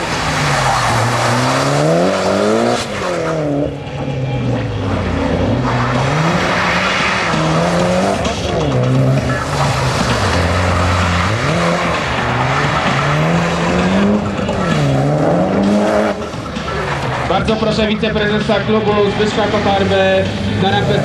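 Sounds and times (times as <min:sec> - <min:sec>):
car engine revving: 0:00.0 - 0:21.0
tyres skidding on wet tarmac: 0:00.0 - 0:21.0.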